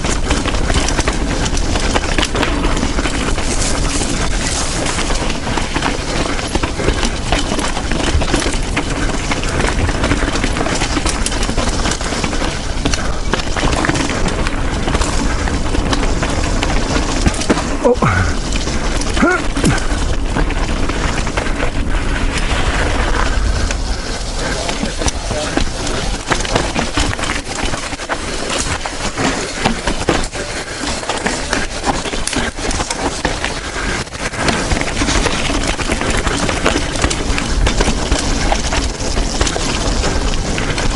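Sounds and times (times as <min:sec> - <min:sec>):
bike rattling over rough ground: 0:00.0 - 0:40.9
steady rushing noise: 0:00.0 - 0:40.9
tyres crunching over stones: 0:00.0 - 0:40.9.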